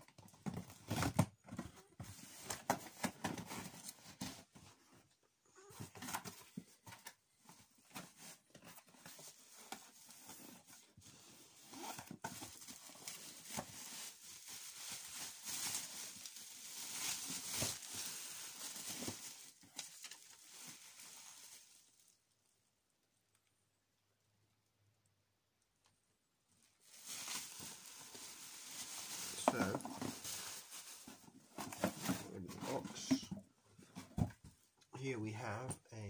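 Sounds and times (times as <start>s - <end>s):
bubble wrap and plastic crinkling: 0.0s - 22.4s, 26.5s - 34.8s.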